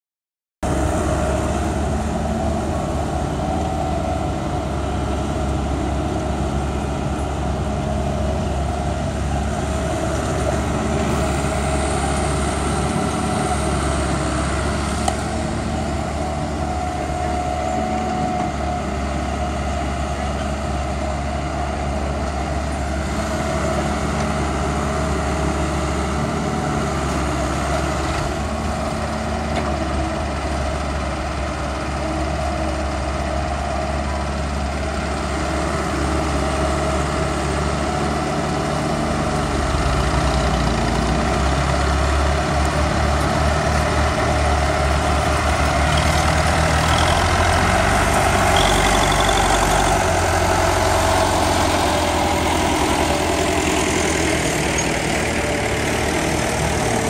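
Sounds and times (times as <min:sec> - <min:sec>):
diesel engines rumbling: 0:00.6 - 0:57.0.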